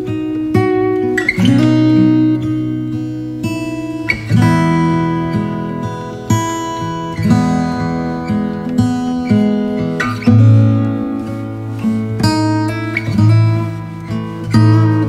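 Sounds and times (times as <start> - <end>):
acoustic guitar playing chords: 0.0 - 15.0.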